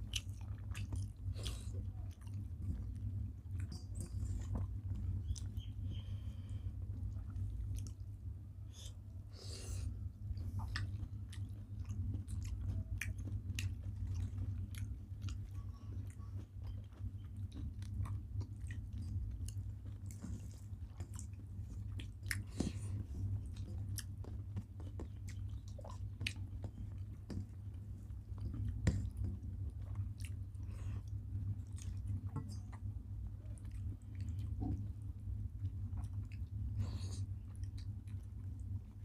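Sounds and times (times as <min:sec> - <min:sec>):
people chewing and lip-smacking: 0:00.0 - 0:39.0
steady low hum: 0:00.0 - 0:39.0.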